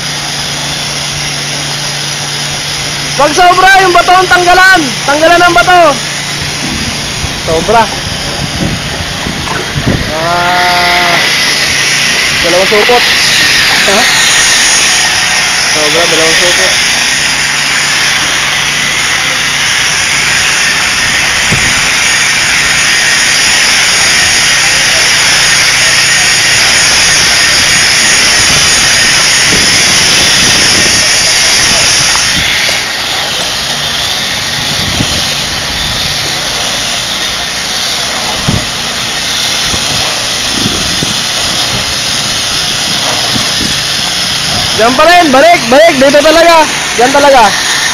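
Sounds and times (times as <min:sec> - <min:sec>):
electric drill motor running: 0:00.0 - 0:47.9.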